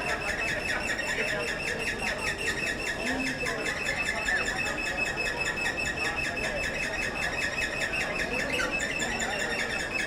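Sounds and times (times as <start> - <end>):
crowd murmur: 0.0 - 10.0
escalator squeaky ticking: 0.0 - 10.0.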